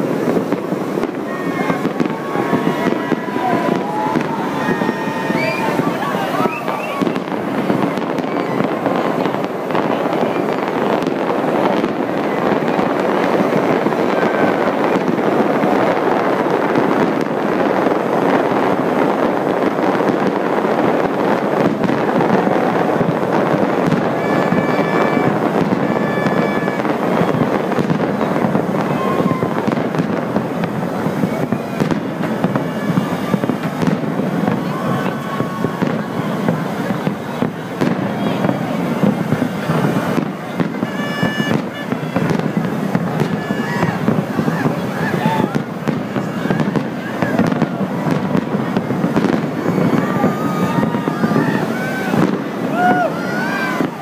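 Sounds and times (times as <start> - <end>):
fireworks bursts and crackling: 0.0 - 54.0.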